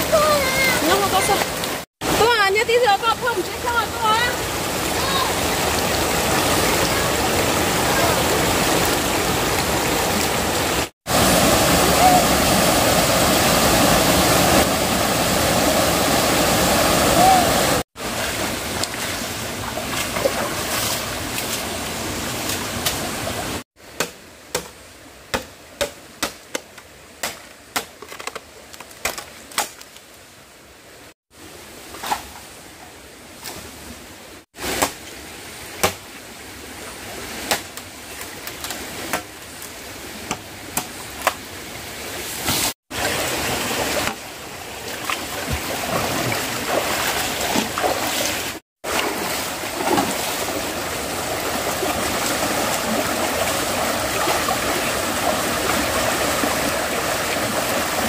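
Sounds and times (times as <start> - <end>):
stream water rushing: 0.0 - 26.4, 30.4 - 58.0.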